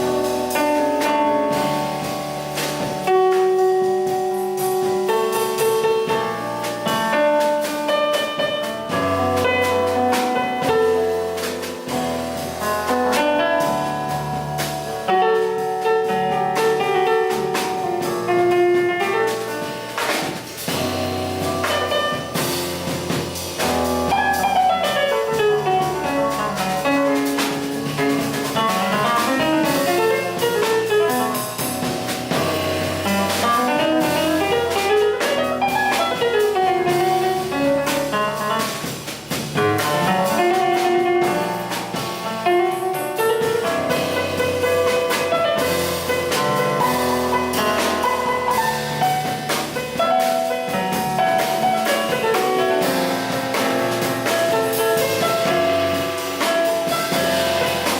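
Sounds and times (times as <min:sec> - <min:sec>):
bass: 0:00.0 - 0:57.9
drum kit and cymbals: 0:00.0 - 0:57.9
fast piano lines: 0:00.0 - 0:57.9.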